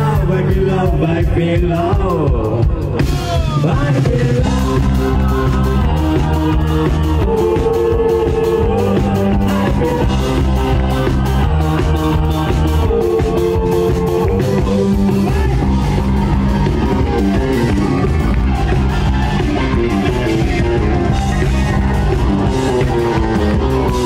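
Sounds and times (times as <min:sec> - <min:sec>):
electric bass guitar: 0:00.0 - 0:24.0
live rock band playing: 0:00.0 - 0:24.0.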